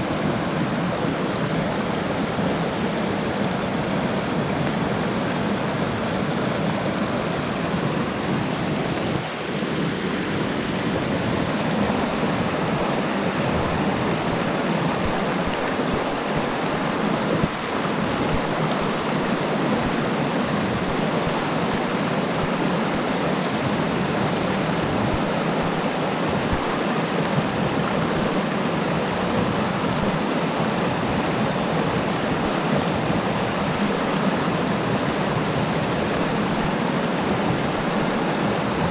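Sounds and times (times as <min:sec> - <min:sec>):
rushing mountain stream: 0:00.0 - 0:38.9.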